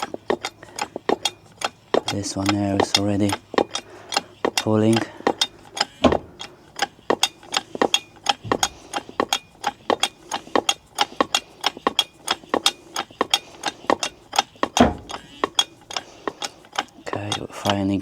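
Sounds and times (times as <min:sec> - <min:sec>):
hydraulic hand pump clicking: 0:00.0 - 0:18.0.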